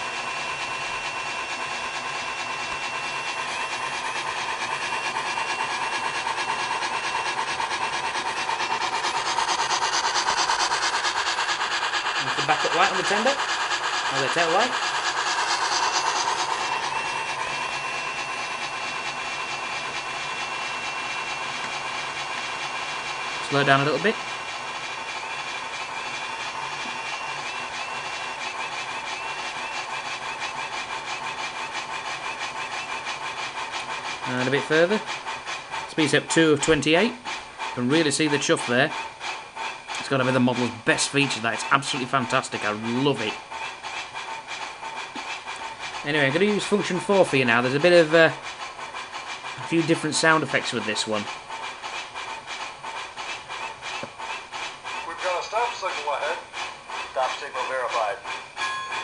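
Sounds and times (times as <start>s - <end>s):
model train steam chuffing: 0.0s - 59.0s.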